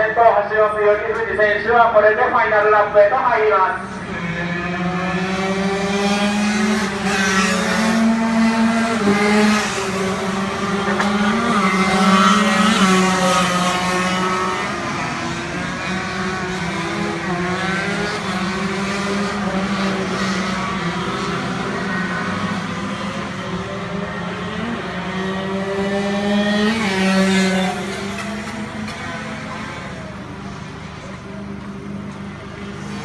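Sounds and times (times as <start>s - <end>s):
small racing engines revving: 3.8s - 33.0s.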